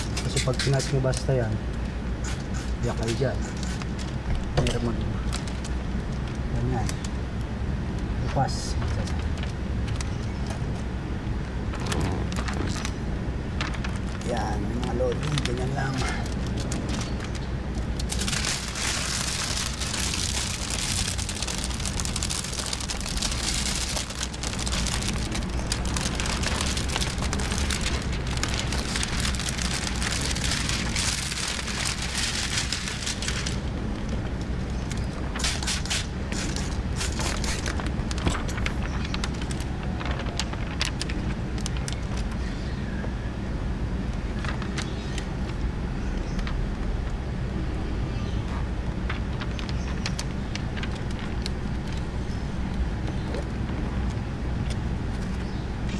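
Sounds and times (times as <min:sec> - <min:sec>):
plastic film crinkling and rustling: 0:00.0 - 0:01.6, 0:02.4 - 0:07.2, 0:11.6 - 0:42.5, 0:44.2 - 0:46.6, 0:48.6 - 0:55.9
sharp plastic crackles: 0:00.0 - 0:42.8, 0:44.0 - 0:47.4, 0:48.4 - 0:55.9
steady low hum: 0:00.0 - 0:55.9.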